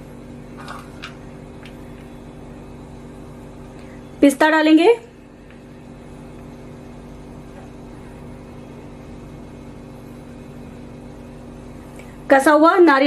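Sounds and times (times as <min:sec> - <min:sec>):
machine hum with low tones: 0:00.0 - 0:13.0.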